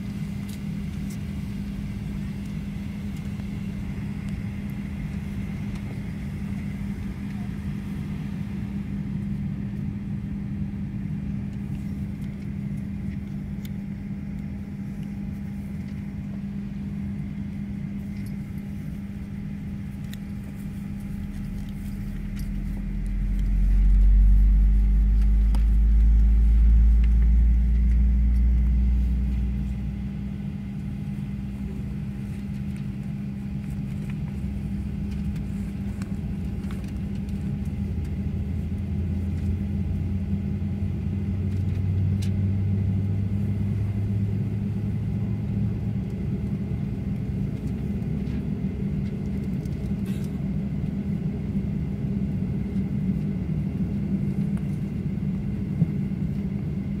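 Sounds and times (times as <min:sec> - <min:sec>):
airplane cabin drone: 0:00.0 - 0:57.0
deep rumble: 0:00.0 - 0:57.0.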